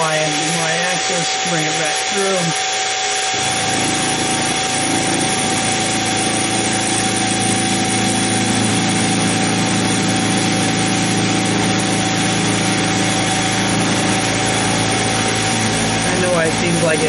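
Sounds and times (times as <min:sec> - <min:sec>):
mill whining and cutting metal: 0:00.0 - 0:17.0.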